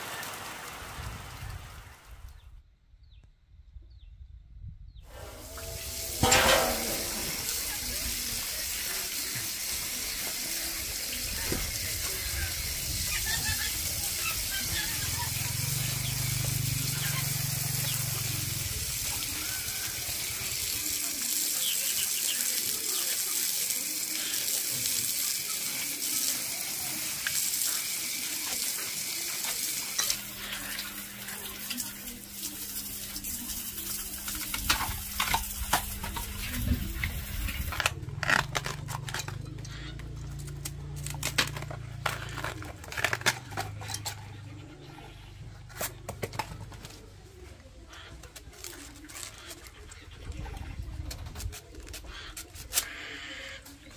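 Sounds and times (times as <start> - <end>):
hose water splashing on concrete: 5.1 - 44.6, 47.9 - 53.9.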